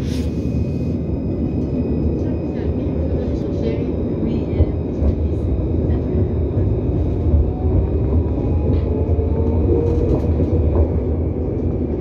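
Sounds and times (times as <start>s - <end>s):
tram wheels rumbling on track: 0.0s - 12.0s.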